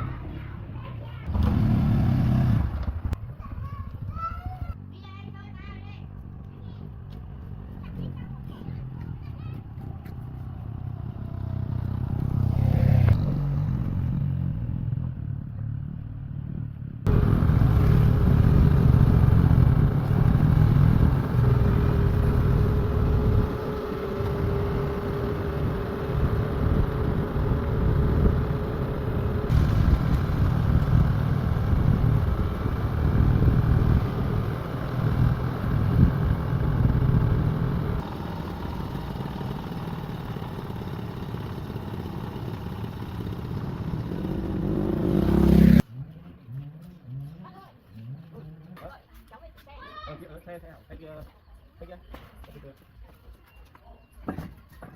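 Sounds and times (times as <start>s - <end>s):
vehicle engine running: 4.7s - 48.8s.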